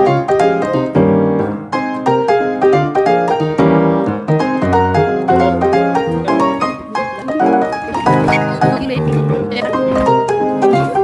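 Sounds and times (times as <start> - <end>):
piano melody: 0.0 - 11.0.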